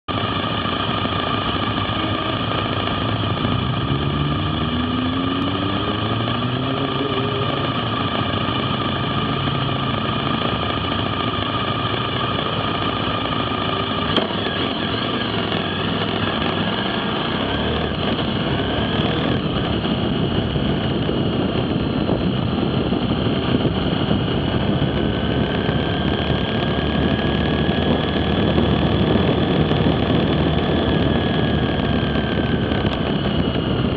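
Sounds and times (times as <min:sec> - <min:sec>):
motorcycle engine accelerating: 0:00.0 - 0:33.9
wind and road noise: 0:00.1 - 0:33.9.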